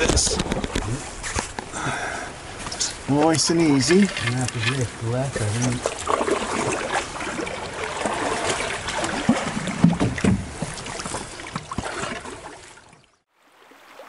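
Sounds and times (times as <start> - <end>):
water rushing and splashing: 0.0 - 14.0.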